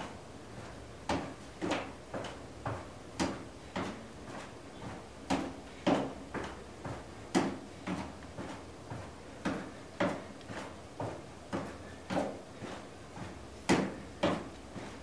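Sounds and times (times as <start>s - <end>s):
feet stepping on aerobic step: 0.0s - 15.0s.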